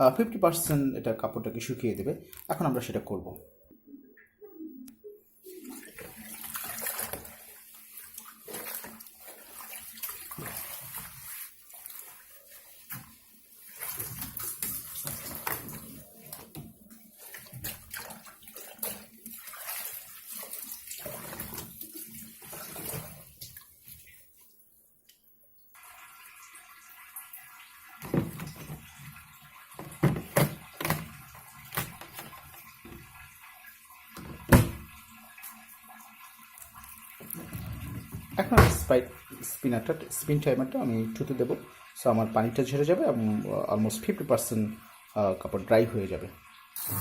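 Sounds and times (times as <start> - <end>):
water splashing and dripping: 5.4 - 24.6, 25.8 - 47.0.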